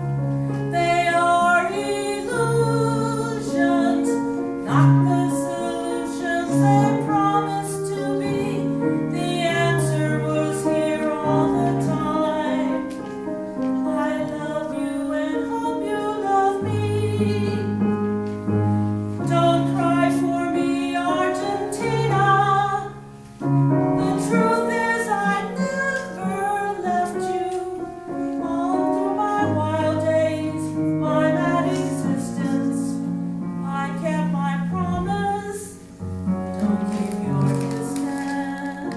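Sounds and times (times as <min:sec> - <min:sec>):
piano accompaniment: 0:00.0 - 0:38.9
woman singing: 0:00.7 - 0:18.0, 0:19.2 - 0:23.0, 0:23.9 - 0:35.9, 0:36.9 - 0:38.9.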